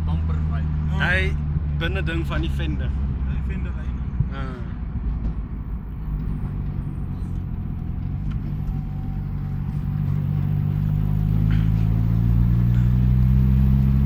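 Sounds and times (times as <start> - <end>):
car engine drone from inside: 0.0 - 14.0.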